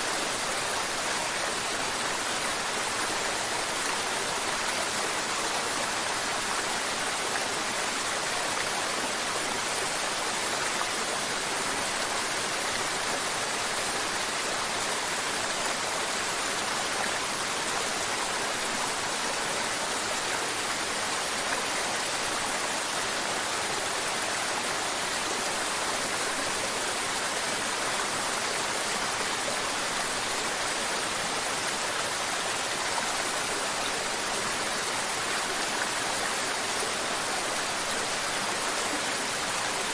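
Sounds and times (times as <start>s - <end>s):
river water flowing and babbling: 0.0s - 39.9s.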